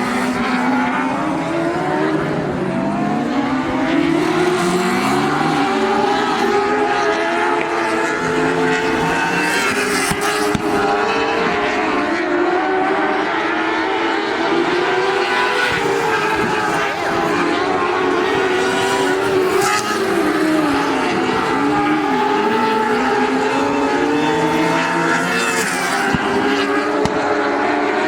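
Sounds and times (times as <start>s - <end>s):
race car engines at high revs: 0.0s - 28.0s.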